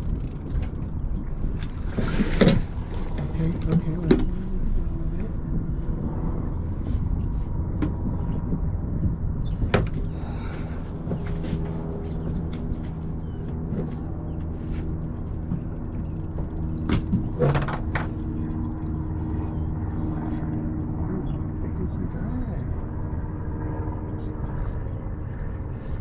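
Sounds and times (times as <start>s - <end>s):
electric boat motor humming: 0.0s - 26.0s
wind rumble: 0.0s - 26.0s.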